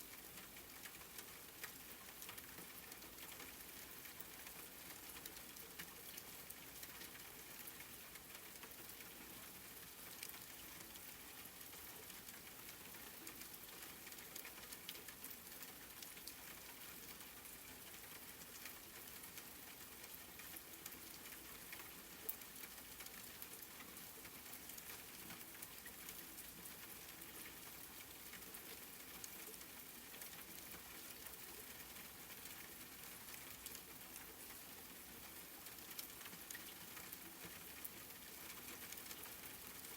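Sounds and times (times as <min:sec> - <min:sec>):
soft rain pattering: 0:00.0 - 0:39.9.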